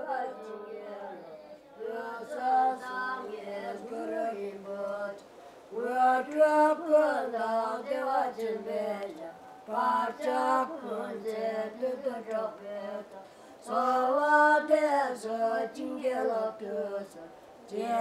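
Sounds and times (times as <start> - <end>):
person singing a melody: 1.8 - 18.0.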